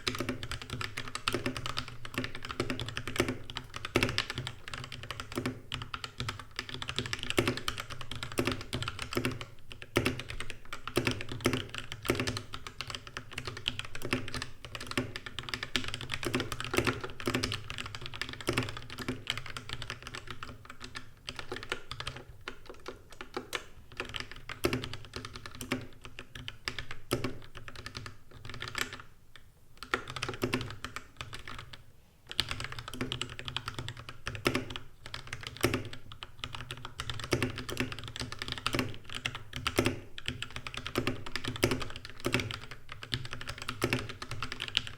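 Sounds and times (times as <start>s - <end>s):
mechanical keyboard typing: 0.0s - 29.1s, 29.8s - 44.9s.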